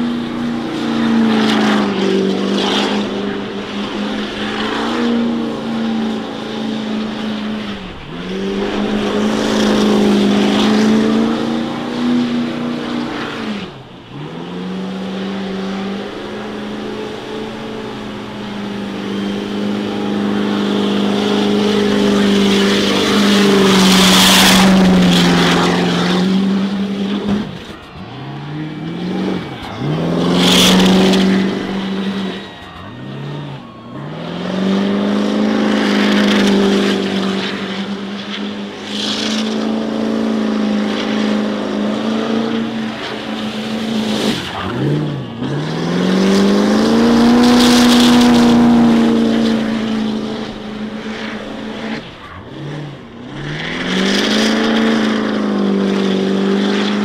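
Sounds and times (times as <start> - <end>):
car engine revving: 0.0 - 57.0
spinning tyres hissing: 0.0 - 57.0.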